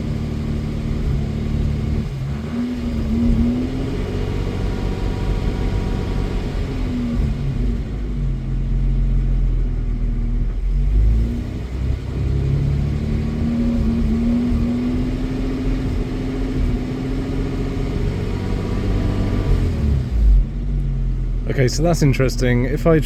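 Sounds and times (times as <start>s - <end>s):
car engine revving slowly: 0.0s - 23.0s.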